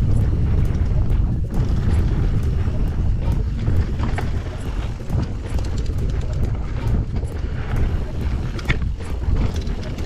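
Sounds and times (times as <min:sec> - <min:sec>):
bike clicks and rattles: 0:00.0 - 0:10.0
wind buffeting microphone: 0:00.0 - 0:10.0.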